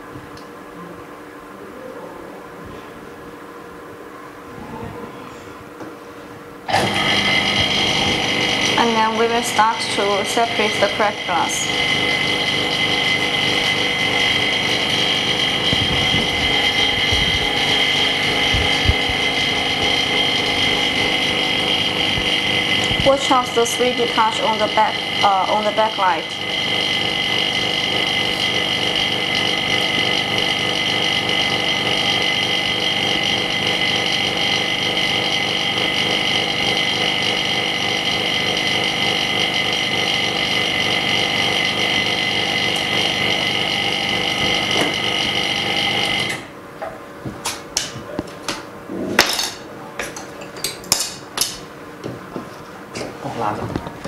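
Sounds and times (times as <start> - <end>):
vacuum pump running: 0.0 - 54.0.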